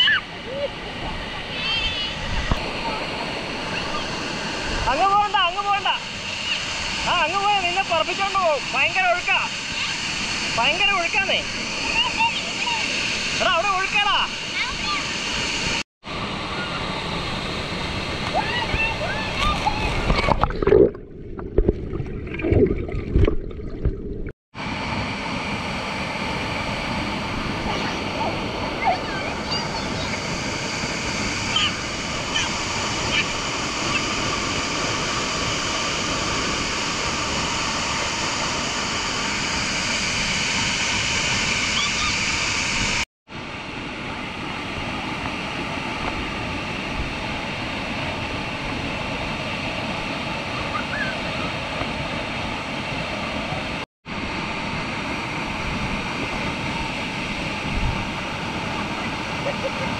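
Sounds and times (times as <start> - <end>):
waterfall rushing: 0.0 - 20.1, 26.4 - 59.9.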